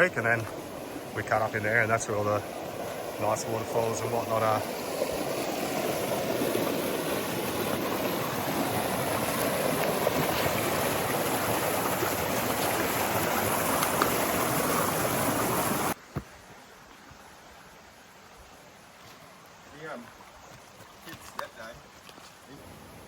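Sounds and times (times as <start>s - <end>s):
creek water rushing over rocks: 0.0s - 23.0s.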